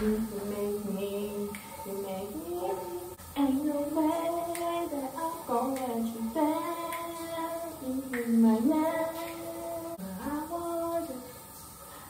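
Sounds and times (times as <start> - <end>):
woman singing slow melody: 0.0 - 11.6.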